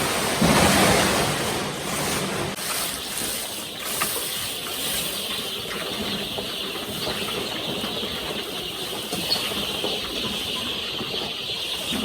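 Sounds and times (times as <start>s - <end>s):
chicks peeping: 1.9s - 12.0s.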